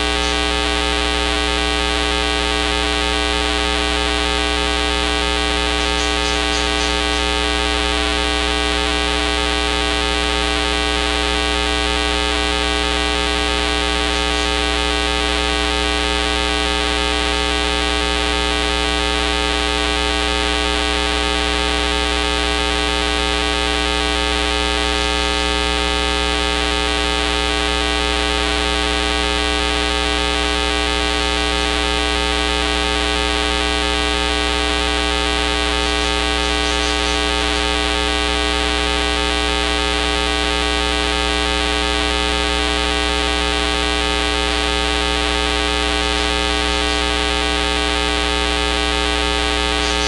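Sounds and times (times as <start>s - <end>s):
steady electronic buzz: 0.0s - 50.0s.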